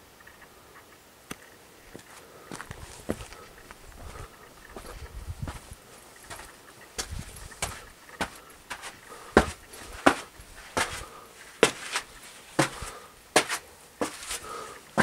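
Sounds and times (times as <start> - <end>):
footsteps crunching on sandy path: 1.9 - 15.0.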